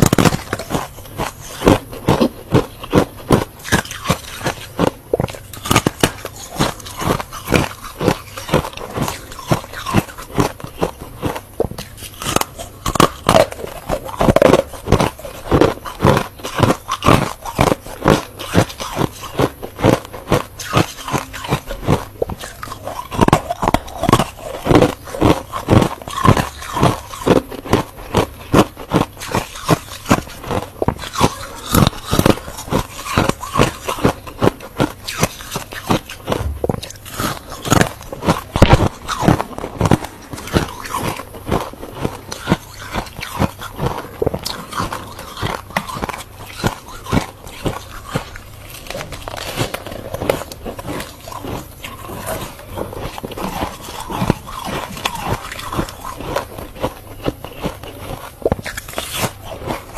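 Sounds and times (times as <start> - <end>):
crunching of frost being chewed: 0.0 - 59.9.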